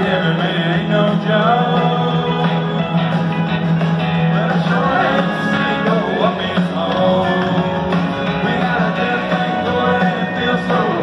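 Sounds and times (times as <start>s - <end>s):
person singing lead vocal: 0.0s - 3.1s, 4.2s - 11.0s
live country band: 0.0s - 11.0s.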